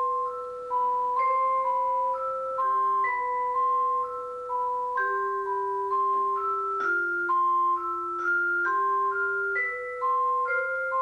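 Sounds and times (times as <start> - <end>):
vibraphone melody: 0.0 - 11.0.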